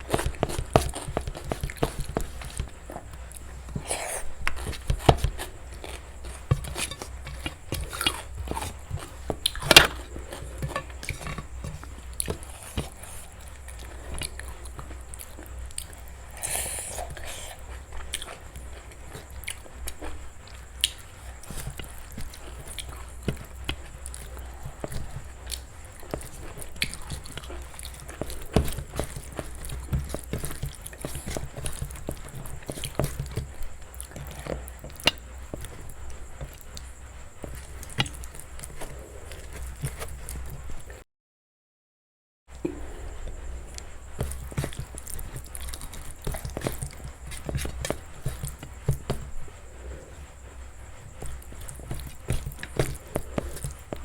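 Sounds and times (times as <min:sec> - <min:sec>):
person chewing close up: 0:00.0 - 0:41.0, 0:42.6 - 0:54.0
sharp crunches: 0:00.0 - 0:41.0, 0:42.6 - 0:54.0.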